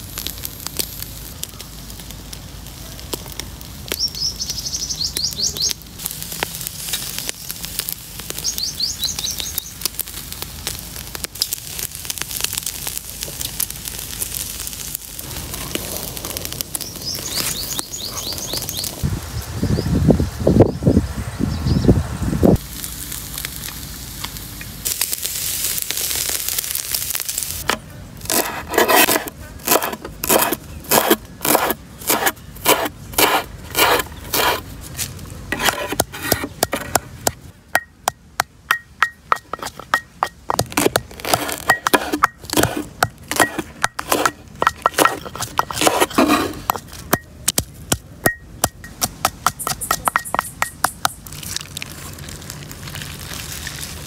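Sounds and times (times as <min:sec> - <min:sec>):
steady hiss: 0:00.0 - 0:21.3, 0:22.0 - 0:54.0.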